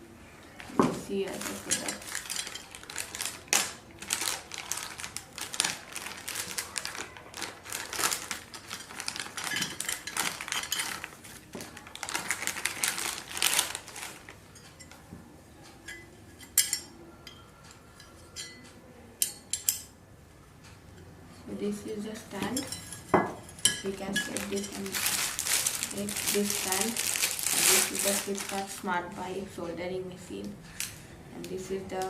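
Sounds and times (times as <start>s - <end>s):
rustling and clicking of handled items: 0.5s - 20.0s, 20.6s - 32.0s.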